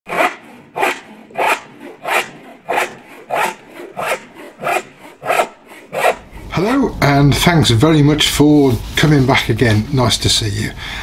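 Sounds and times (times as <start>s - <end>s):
hand saw cutting wood: 0.0s - 10.0s.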